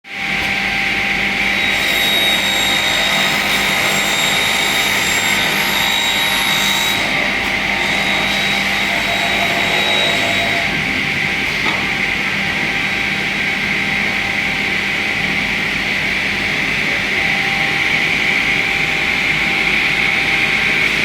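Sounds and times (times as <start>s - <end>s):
rip saw machine whine: 0.2s - 21.0s.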